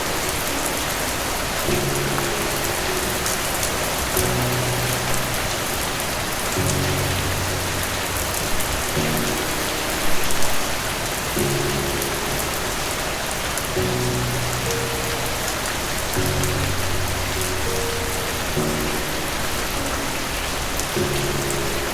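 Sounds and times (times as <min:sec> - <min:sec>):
calm background music: 0:00.0 - 0:21.9
heavy rain falling: 0:00.0 - 0:21.9.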